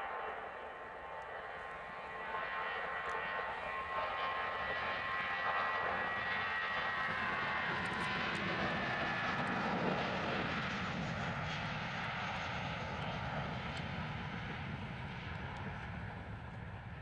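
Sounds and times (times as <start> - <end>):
airliner engines rushing with whine: 0.0 - 17.0.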